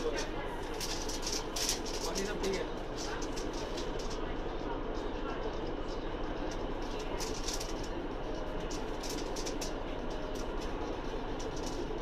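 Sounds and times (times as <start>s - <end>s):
sharp clicks and rattles: 0.0s - 12.0s
train carriage rumble: 0.0s - 12.0s.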